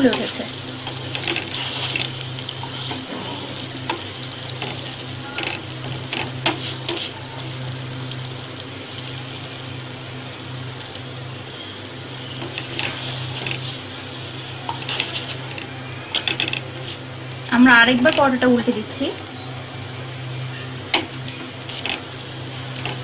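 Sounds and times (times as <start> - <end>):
flatbread sizzling in a pan: 0.0 - 18.2, 19.2 - 23.0.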